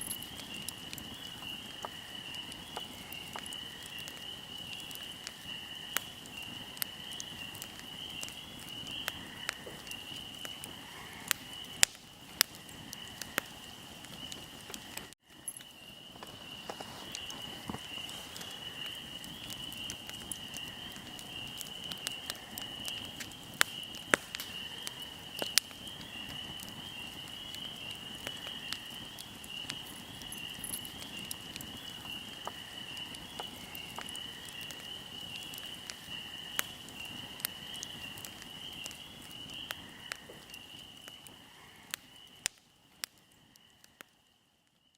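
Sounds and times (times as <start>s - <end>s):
crickets trilling: 0.0s - 44.9s
fire crackling and popping: 0.0s - 44.9s.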